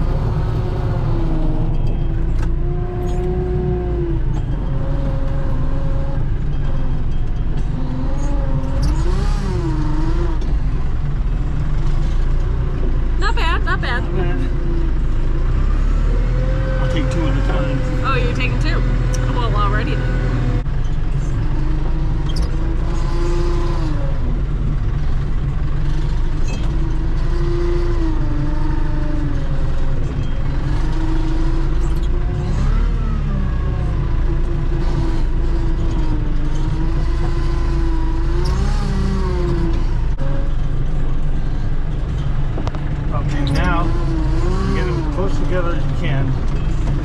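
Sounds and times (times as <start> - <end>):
tractor engine running: 0.0 - 47.0.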